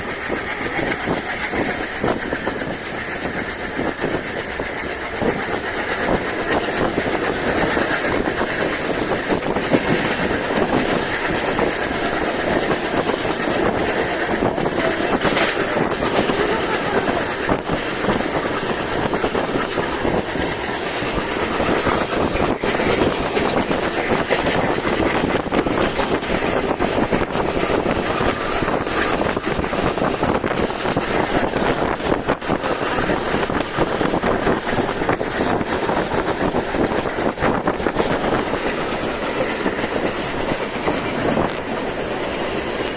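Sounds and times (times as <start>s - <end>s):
high wheel squeal: 0.0s - 42.9s
train rumbling on rails: 0.0s - 42.9s
wheels clicking over rail joints: 0.0s - 42.9s.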